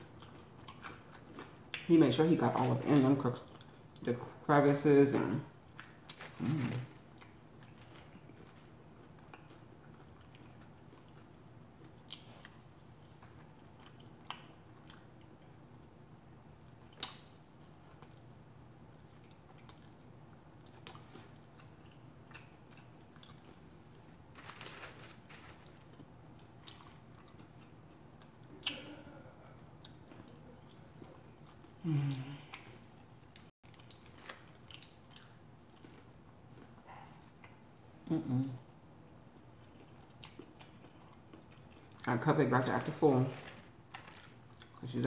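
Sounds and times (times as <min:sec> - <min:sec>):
quiet chewing: 0:00.0 - 0:01.9, 0:02.5 - 0:04.1, 0:05.6 - 0:42.1, 0:42.8 - 0:44.9.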